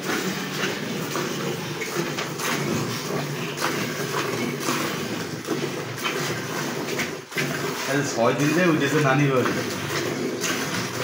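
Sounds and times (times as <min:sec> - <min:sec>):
milk squirting into a pail: 0:00.0 - 0:11.0.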